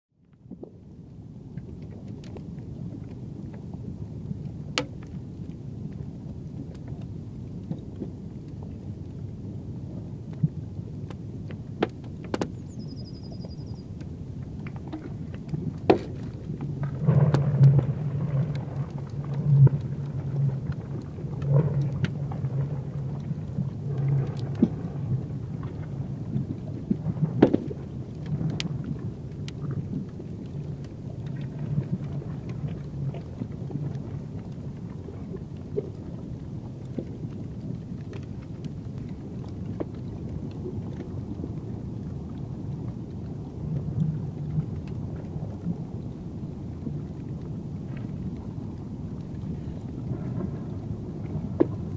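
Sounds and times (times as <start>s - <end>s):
low pulsing ice rumble: 0.2s - 51.9s.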